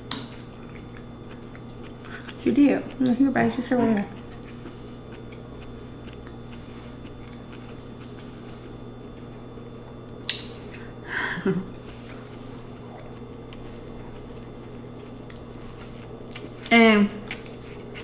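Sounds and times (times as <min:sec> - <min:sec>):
wet chewing and slurping: 0:00.1 - 0:09.6, 0:11.7 - 0:18.0.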